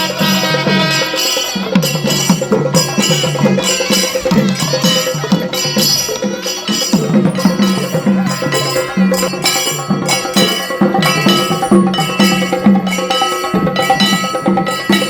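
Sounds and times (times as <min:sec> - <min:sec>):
percussion strokes: 0:00.0 - 0:15.0
ringing bell-like tones: 0:00.0 - 0:15.0.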